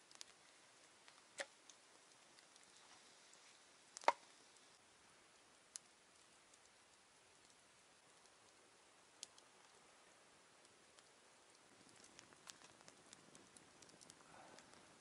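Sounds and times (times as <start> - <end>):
campfire crackling and popping: 0.0 - 15.0
faint fire hiss: 0.0 - 15.0.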